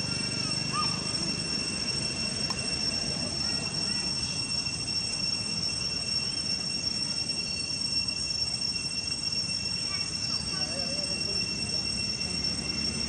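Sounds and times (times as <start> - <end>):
faint chirps: 0.0 - 13.0
high-pitched two-tone whine: 0.0 - 13.0.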